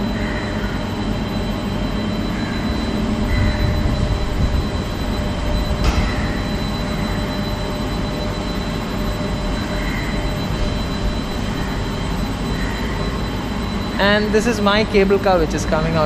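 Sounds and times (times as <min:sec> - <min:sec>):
cable car machinery rumbling: 0:00.0 - 0:16.0.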